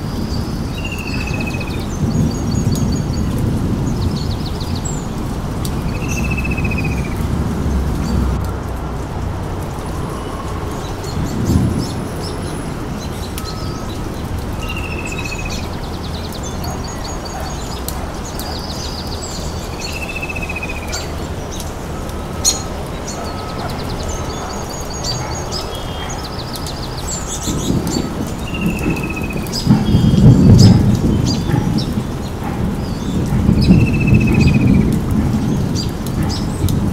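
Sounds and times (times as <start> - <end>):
birds chirping and trilling: 0.0 - 8.2, 9.9 - 36.8
rain-like hiss: 0.0 - 36.9.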